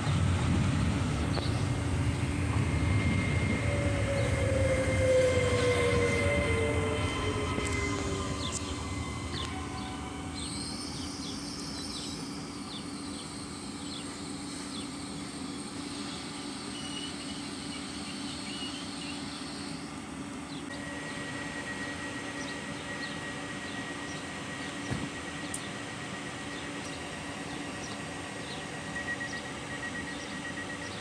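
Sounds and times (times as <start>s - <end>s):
high whine: 0.0s - 17.4s, 20.7s - 31.0s
train mechanical hum: 0.0s - 31.0s.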